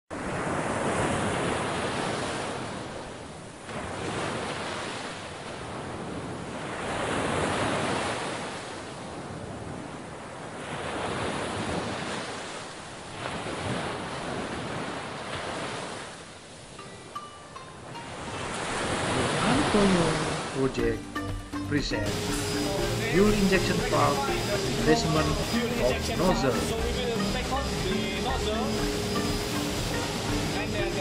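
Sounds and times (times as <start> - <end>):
waves washing in and drawing back: 0.1 - 31.0.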